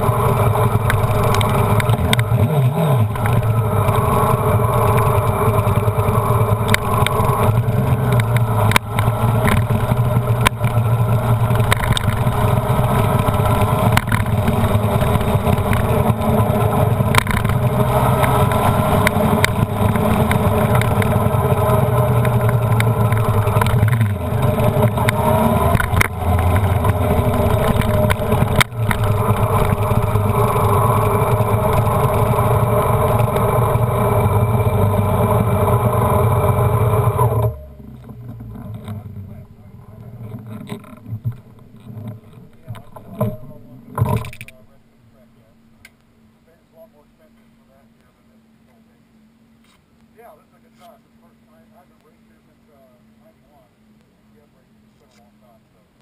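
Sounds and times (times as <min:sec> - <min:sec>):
motorcycle engine running: 0:00.0 - 0:45.8.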